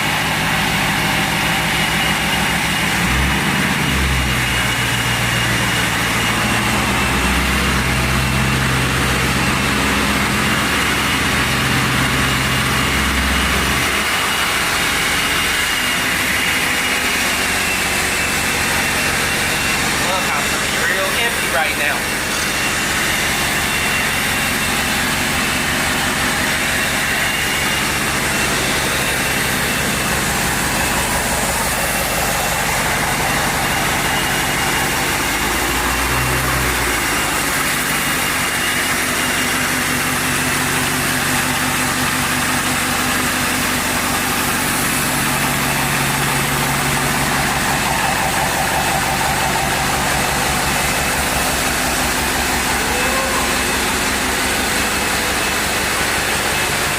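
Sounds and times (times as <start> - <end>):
car engine rumbling through exhaust: 0.0 - 56.9.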